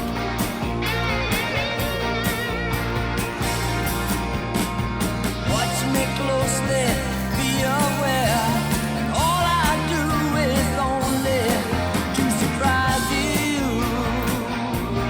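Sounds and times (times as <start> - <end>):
rock song with male vocal: 0.0 - 15.0.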